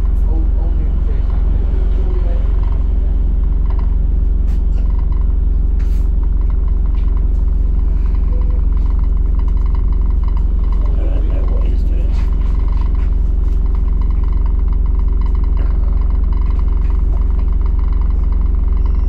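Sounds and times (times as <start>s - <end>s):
bus diesel engine rumble: 0.0s - 19.0s
faint rattles: 0.0s - 19.0s.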